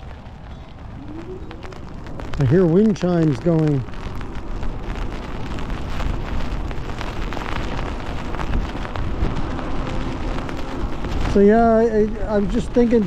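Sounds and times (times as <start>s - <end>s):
rain spattering: 0.0s - 13.0s
tyres hissing on wet road: 0.0s - 13.0s
wind buffeting microphone: 0.0s - 13.0s.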